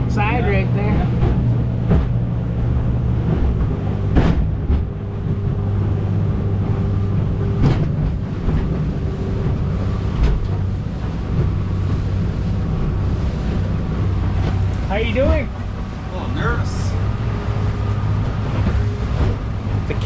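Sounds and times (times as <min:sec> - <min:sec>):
boat motor running: 0:00.0 - 0:20.0
hull slamming into waves: 0:01.1 - 0:20.0.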